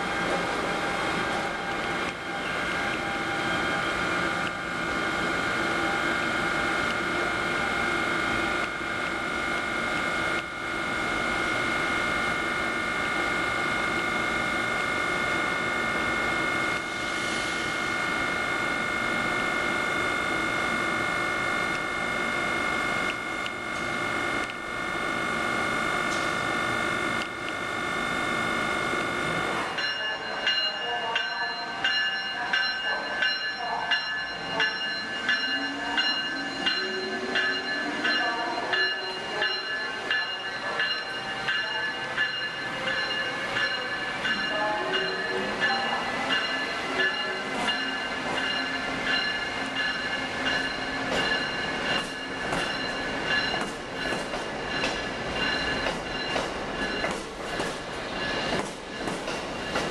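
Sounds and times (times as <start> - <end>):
electric train whine: 0.0 - 59.9
low rumble of train cars: 0.0 - 59.9.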